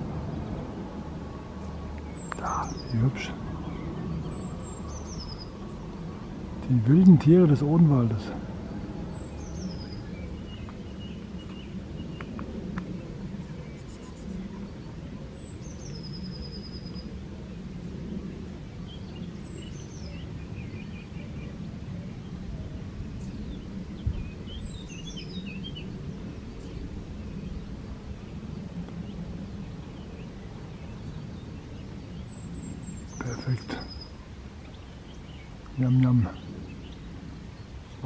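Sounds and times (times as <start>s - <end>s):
songbirds calling: 0.0s - 38.0s
wind rumbling on microphone: 0.0s - 38.0s.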